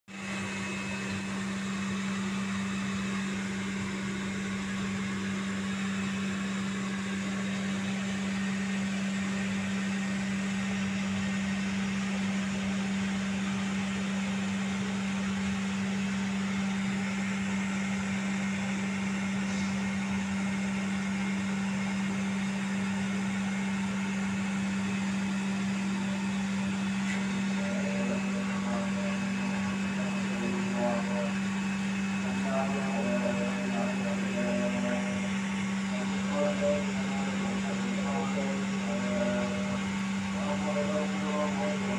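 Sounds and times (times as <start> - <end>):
steady machine hum: 0.1 - 41.9.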